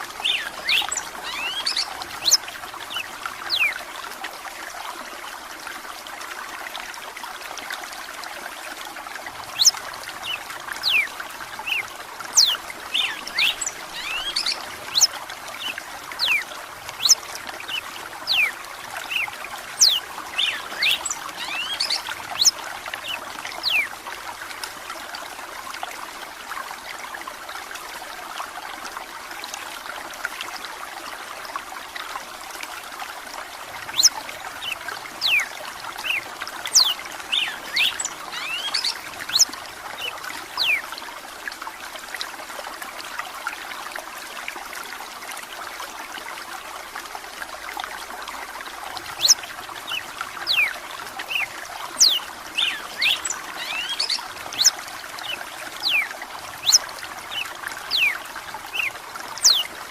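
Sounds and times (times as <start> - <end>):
trickle of running water: 0.0 - 59.9.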